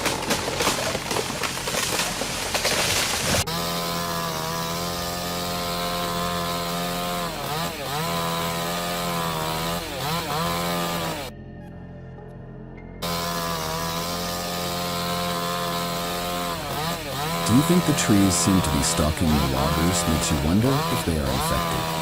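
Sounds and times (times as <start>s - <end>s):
chainsaw engine at high revs: 0.0s - 11.3s, 13.0s - 22.0s.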